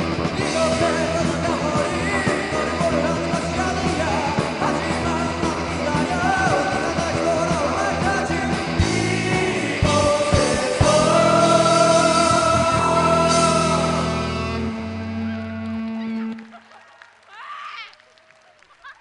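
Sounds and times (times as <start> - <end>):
live band with singer: 0.0 - 16.6.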